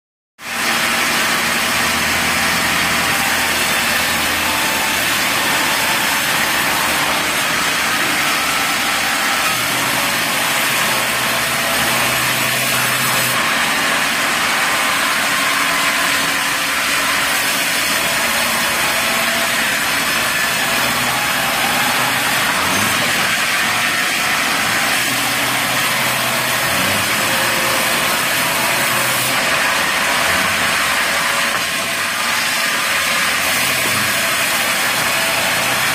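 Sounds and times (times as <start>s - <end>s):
band saw cutting through log: 0.4s - 35.9s.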